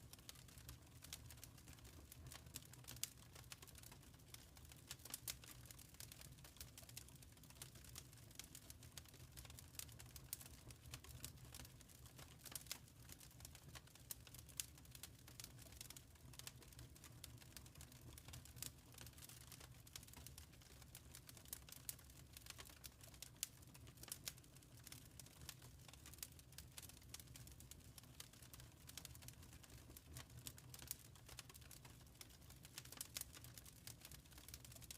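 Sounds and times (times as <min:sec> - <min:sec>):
wood fire crackling and popping: 0:00.1 - 0:34.9.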